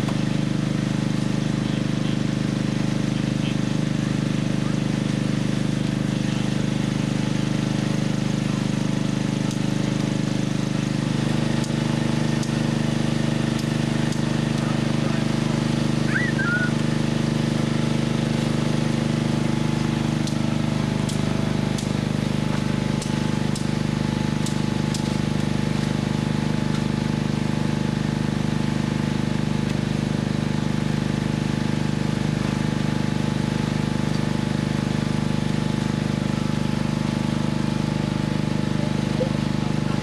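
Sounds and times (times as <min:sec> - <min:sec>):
engine humming steadily: 0:00.0 - 0:40.0.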